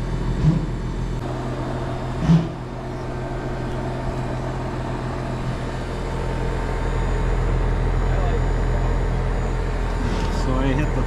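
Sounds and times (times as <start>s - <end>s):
heat pump unit humming: 0.0s - 11.0s.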